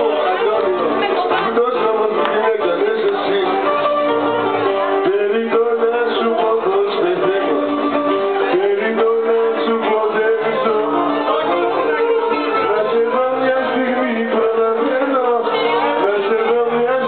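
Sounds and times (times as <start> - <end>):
plucked string melody: 0.0 - 17.0
small band playing live: 0.0 - 17.0.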